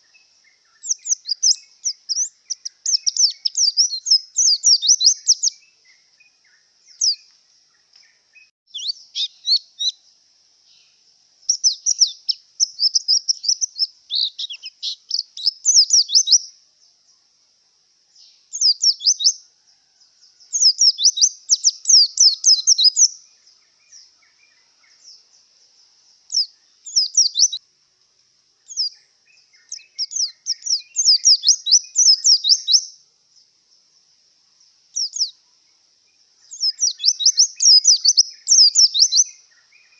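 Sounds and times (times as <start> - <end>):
bird twittering song: 0.0 - 17.4, 18.0 - 27.6, 28.6 - 39.9.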